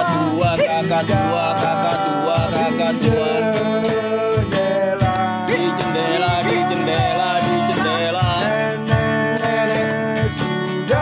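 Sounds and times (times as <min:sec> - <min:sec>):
cajon beat: 0:00.0 - 0:11.0
men singing in harmony: 0:00.0 - 0:11.0
strummed acoustic guitar: 0:00.0 - 0:11.0.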